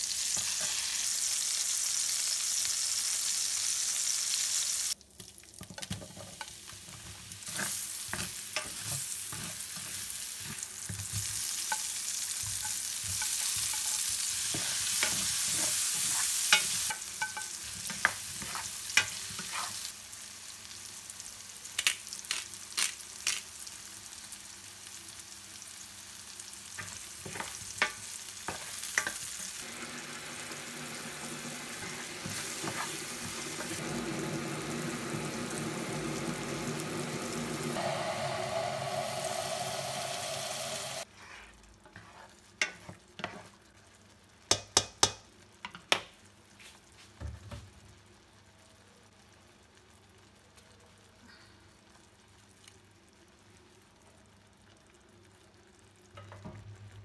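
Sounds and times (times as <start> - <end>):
chicken cutlets frying: 0.0 - 46.4
vegetables sizzling in oil: 0.0 - 51.2.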